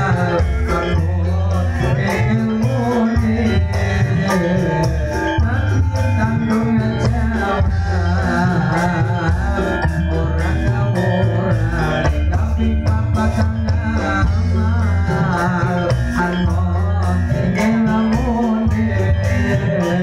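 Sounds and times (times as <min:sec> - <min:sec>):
live band playing: 0:00.0 - 0:20.0
man singing into a microphone: 0:00.0 - 0:20.0
steady drum beat: 0:00.0 - 0:20.0.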